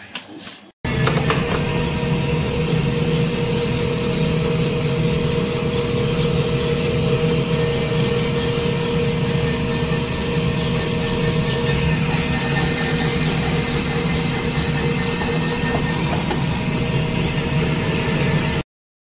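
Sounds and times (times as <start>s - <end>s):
electric slicer motor humming: 0.9s - 18.6s.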